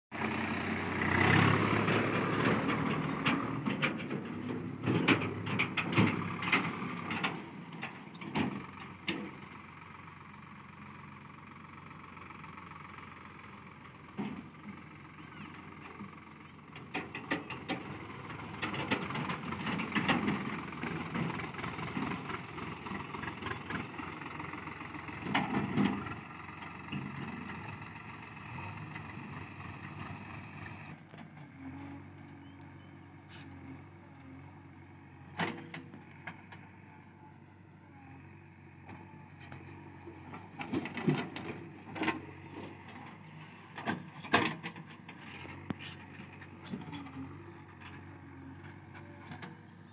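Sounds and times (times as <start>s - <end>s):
diesel engines running: 0.1s - 49.9s
backhoe knocks and clanks: 0.2s - 49.9s.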